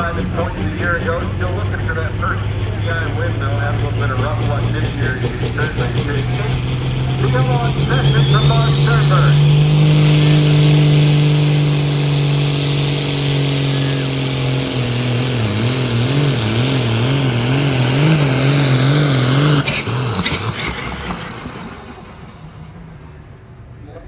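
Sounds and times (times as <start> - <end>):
engine running hard under load: 0.0 - 24.0.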